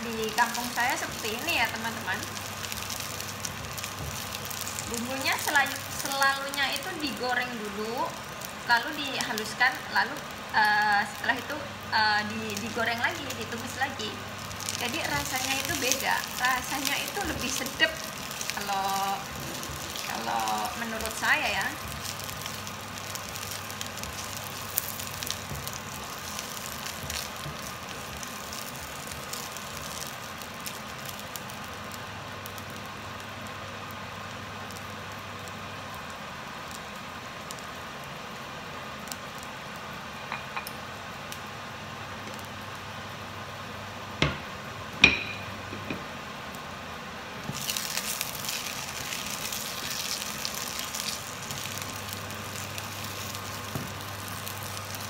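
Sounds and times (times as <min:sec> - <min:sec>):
food sizzling in pan: 0:00.0 - 0:55.0.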